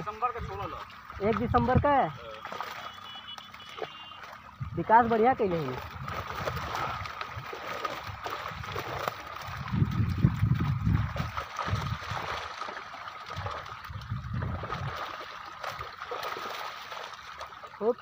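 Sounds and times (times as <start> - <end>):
fish thrashing in water: 0.0 - 18.0
water splashing and churning: 0.0 - 18.0.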